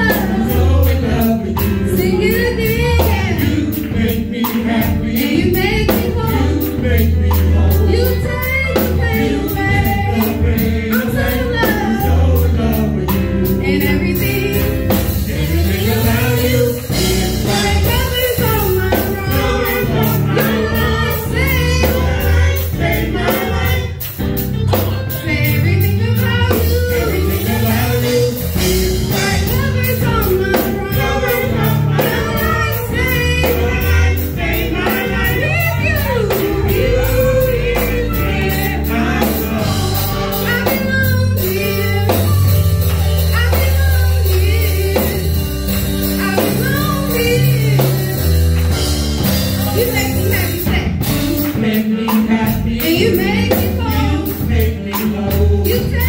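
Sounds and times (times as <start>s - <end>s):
strong bass: 0.0s - 51.7s
gospel group singing: 0.0s - 56.0s
steady percussive beat: 0.0s - 56.0s.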